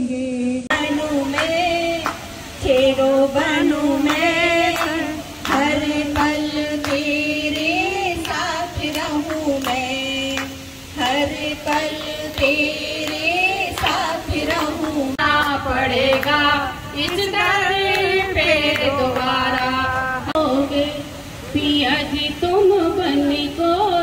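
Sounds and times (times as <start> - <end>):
woman singing into microphone: 0.0 - 24.0.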